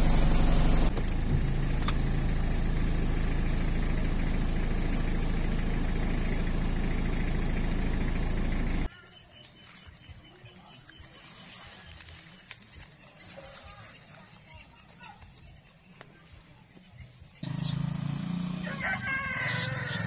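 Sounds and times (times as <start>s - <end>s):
vehicle engine idling: 0.0s - 11.2s, 11.8s - 20.0s.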